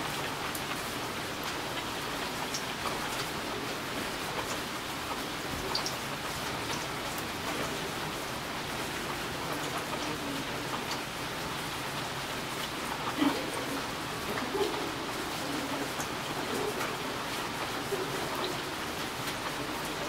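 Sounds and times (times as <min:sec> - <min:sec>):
raindrops ticking: 0:00.0 - 0:20.0
steady rain: 0:00.0 - 0:20.0.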